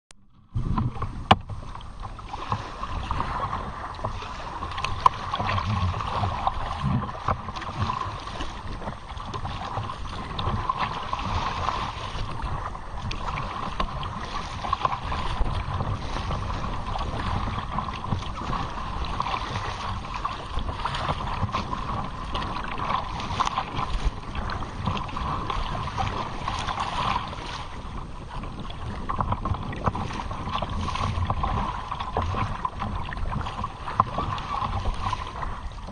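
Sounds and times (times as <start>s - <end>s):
wind rumble on microphone: 0.2s - 35.9s
water slapping against kayak: 0.3s - 35.9s.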